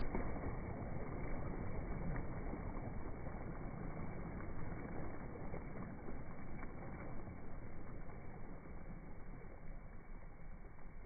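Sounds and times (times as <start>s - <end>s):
small waves washing over pebbles: 0.0s - 11.0s.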